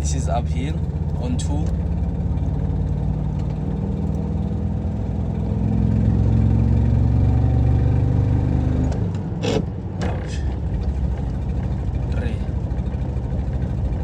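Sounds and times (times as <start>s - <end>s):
rough van engine pulling uphill: 0.0s - 14.0s.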